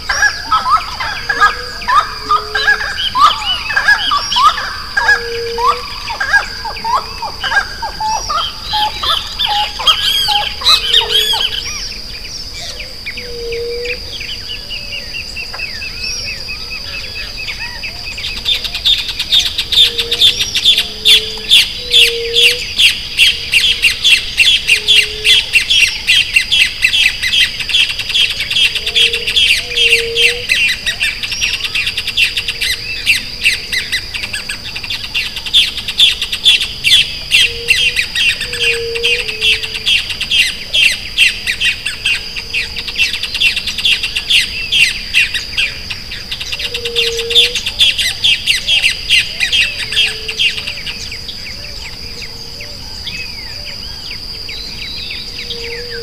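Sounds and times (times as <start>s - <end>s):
birds chirping rapidly: 0.0s - 56.0s.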